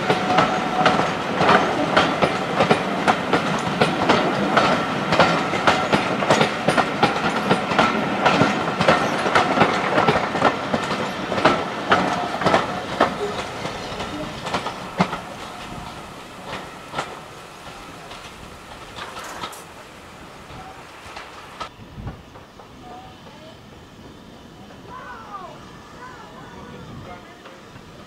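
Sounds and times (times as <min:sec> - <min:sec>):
train wheels clicking over rail joints: 0:00.0 - 0:25.1
train rumble: 0:00.0 - 0:28.0.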